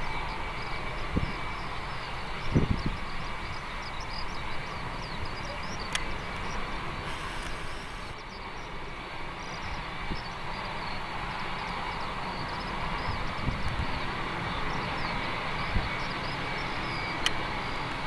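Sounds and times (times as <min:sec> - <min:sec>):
distant jet engines rumbling: 0:00.0 - 0:18.0.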